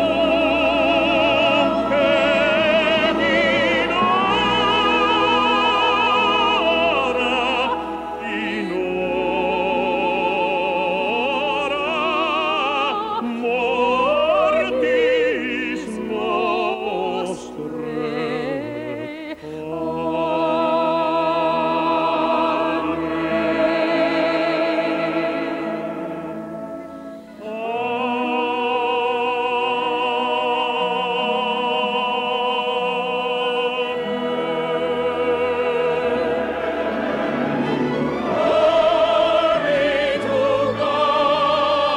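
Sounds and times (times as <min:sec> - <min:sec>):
orchestral accompaniment: 0:00.0 - 0:28.7, 0:31.1 - 0:41.9
operatic singing: 0:00.0 - 0:41.9.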